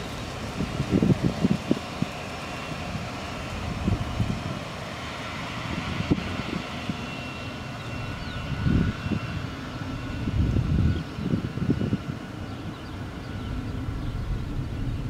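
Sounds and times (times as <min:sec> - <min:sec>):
distant jet engines: 0:00.0 - 0:15.0
wind buffeting microphone: 0:00.1 - 0:15.0.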